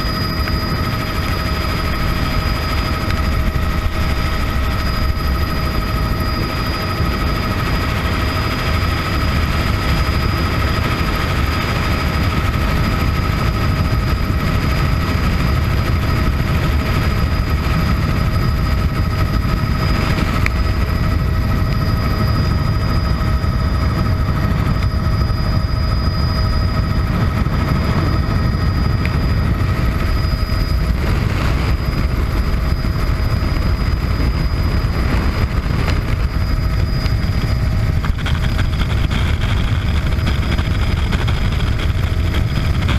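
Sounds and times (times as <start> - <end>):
helicopter rotor rumble: 0.0 - 42.9
turbine engine whine: 0.0 - 42.9.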